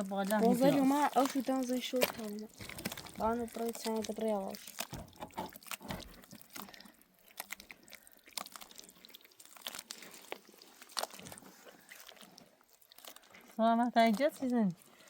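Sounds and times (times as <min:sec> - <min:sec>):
crunching and clicking: 0:00.0 - 0:14.6.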